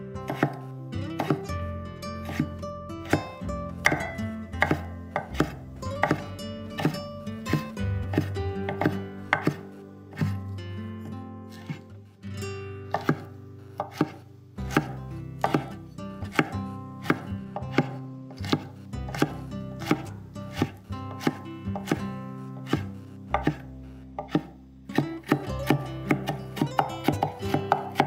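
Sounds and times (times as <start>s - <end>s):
knife chopping on wooden board: 0.2s - 1.5s, 2.2s - 10.4s, 11.5s - 11.8s, 12.9s - 28.0s.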